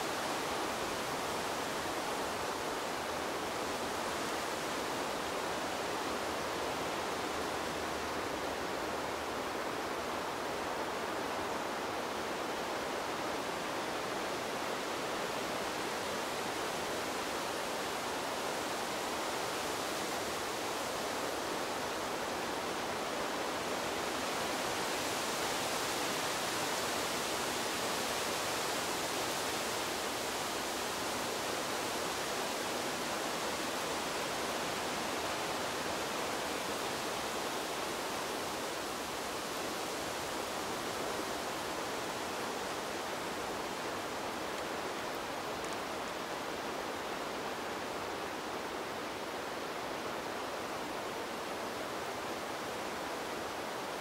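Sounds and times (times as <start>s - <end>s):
wind rushing through tree leaves: 0.0s - 54.0s.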